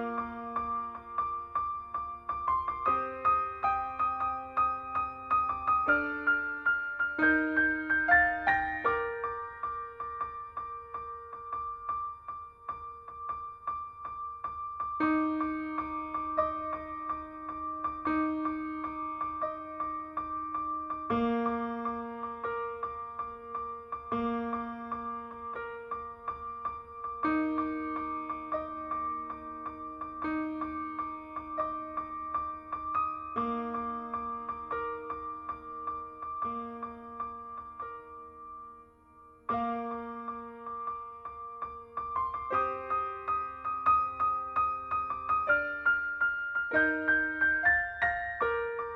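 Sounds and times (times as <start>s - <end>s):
background piano music: 0.0s - 48.9s.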